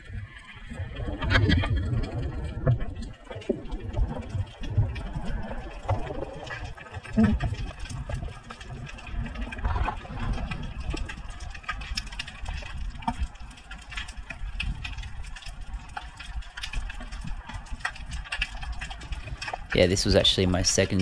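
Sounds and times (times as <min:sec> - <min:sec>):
sharp clicks and crackles: 0:00.0 - 0:21.0
underwater rumble of moving water: 0:00.0 - 0:21.0.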